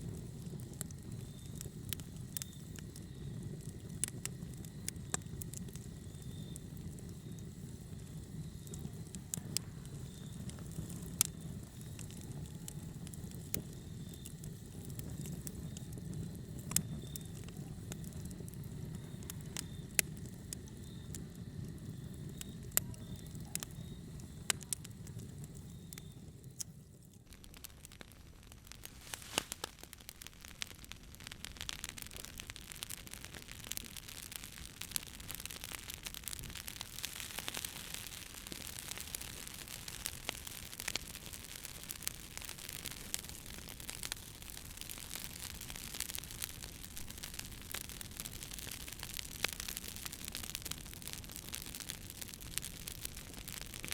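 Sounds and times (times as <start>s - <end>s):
fire rumbling: 0.0s - 53.9s
wood crackling and popping: 0.0s - 53.9s.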